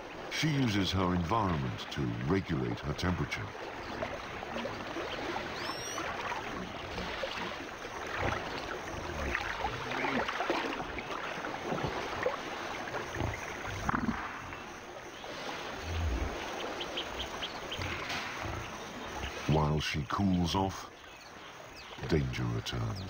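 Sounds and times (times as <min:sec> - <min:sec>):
water sloshing and splashing: 0:00.0 - 0:22.8.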